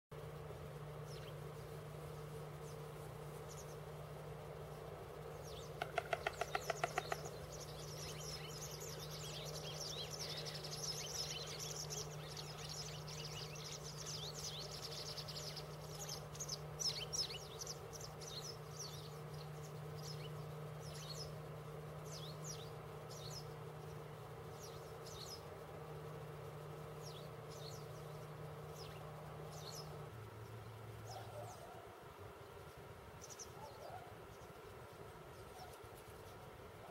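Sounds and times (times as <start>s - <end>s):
steady low hum: 0.1s - 36.9s
small birds chirping: 0.2s - 36.9s.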